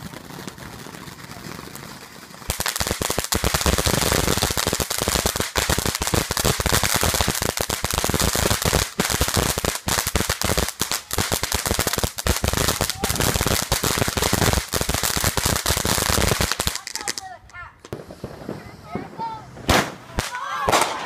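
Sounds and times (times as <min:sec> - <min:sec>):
firework crackling: 0:00.0 - 0:21.0.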